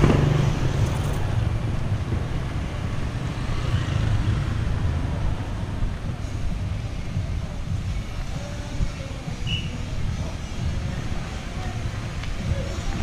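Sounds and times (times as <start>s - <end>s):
low rumble of street noise: 0.0s - 13.0s.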